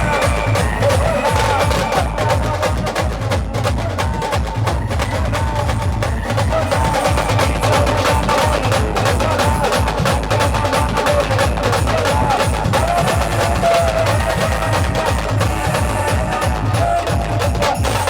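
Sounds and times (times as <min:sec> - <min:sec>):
heavy drum beat: 0:00.0 - 0:18.0.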